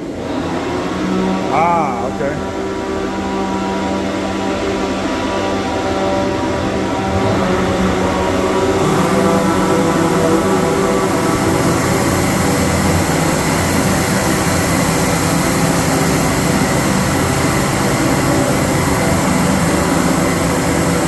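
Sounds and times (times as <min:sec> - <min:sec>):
chainsaw engines droning: 0:00.0 - 0:21.0.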